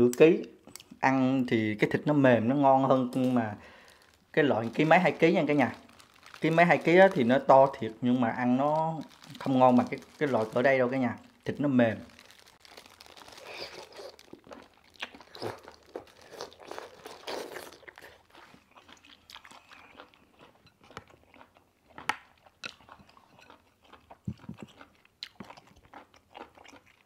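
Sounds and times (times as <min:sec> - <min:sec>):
wet crunchy chewing: 0:03.2 - 0:27.0.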